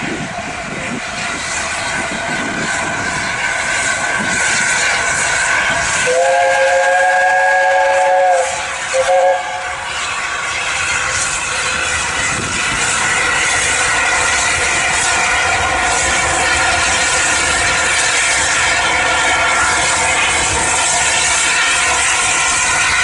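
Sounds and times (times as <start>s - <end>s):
steam locomotive passing: 0.0s - 23.0s.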